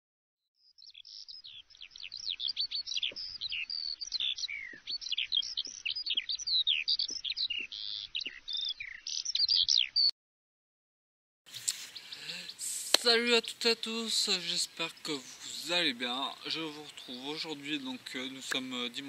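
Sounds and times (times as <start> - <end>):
songbirds chirping: 0.6 - 10.1, 11.5 - 19.0.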